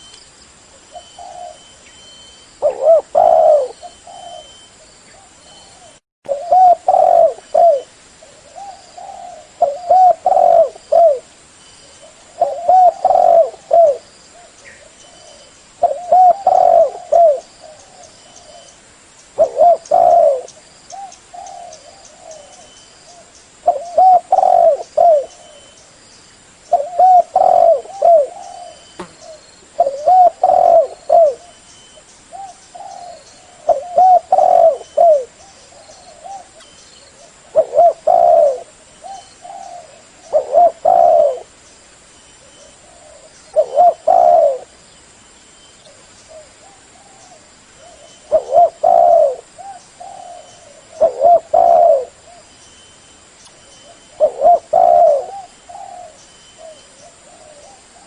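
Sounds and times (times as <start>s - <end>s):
dove cooing: 0.9s - 1.8s, 2.6s - 11.3s, 11.9s - 18.8s, 19.4s - 25.8s, 26.7s - 31.6s, 32.3s - 41.5s, 42.4s - 44.8s, 45.8s - 52.5s, 53.8s - 58.0s.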